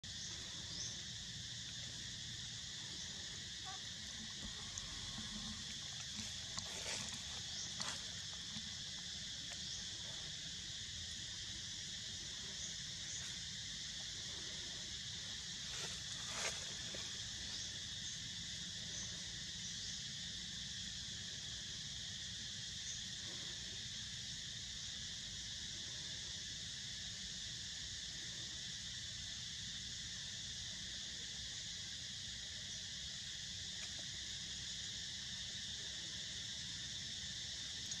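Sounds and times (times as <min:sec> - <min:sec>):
insect chorus buzzing: 0:00.0 - 0:38.0.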